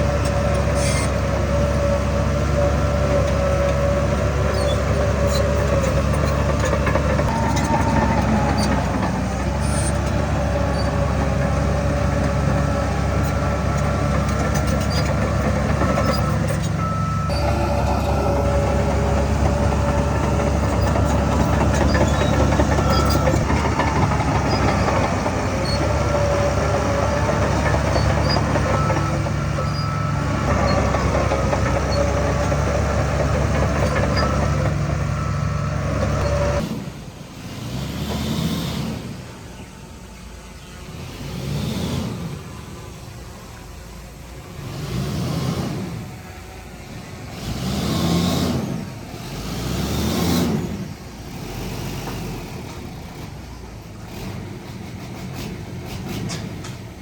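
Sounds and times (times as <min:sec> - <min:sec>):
metallic whines and squeals: 0:00.0 - 0:51.5
diesel machinery rumbling: 0:00.0 - 0:57.0.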